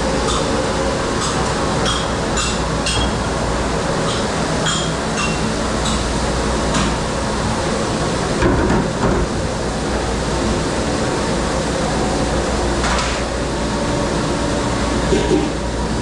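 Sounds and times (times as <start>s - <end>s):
dishwashing machine noise: 0.0s - 16.0s.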